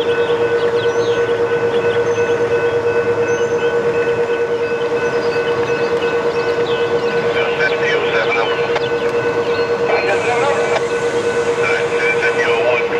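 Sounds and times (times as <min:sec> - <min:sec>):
birds chirping: 0:00.0 - 0:12.9
crossing warning bell ringing: 0:00.0 - 0:12.9
freight train rolling by: 0:00.0 - 0:12.9.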